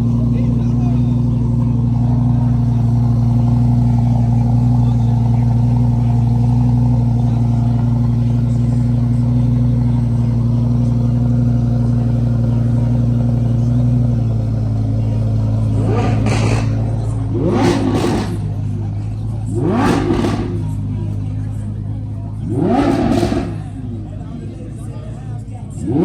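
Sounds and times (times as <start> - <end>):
car engine idling: 0.0 - 26.0
voices: 0.0 - 26.0.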